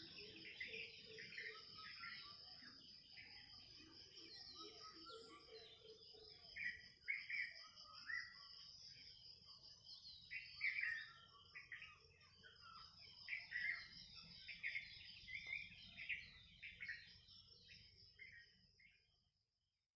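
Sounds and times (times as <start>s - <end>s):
wild birds chirping and trilling: 0.0s - 19.4s.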